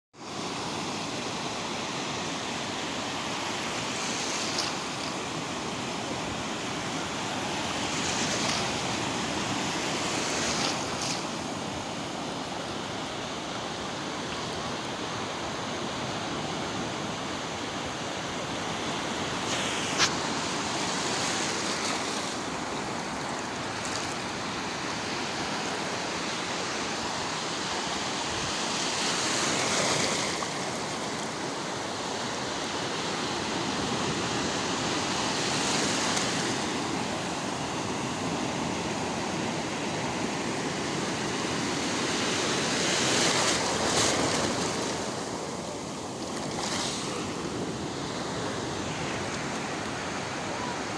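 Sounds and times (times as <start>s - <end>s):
small waves washing onto sand: 0.2s - 50.9s.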